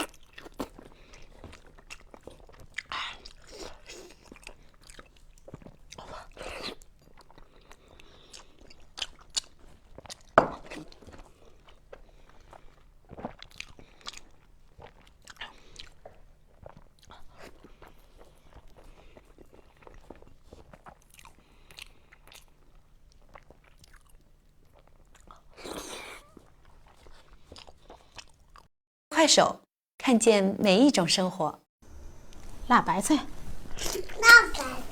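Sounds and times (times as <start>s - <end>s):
crunchy food chewing: 0.0s - 28.7s.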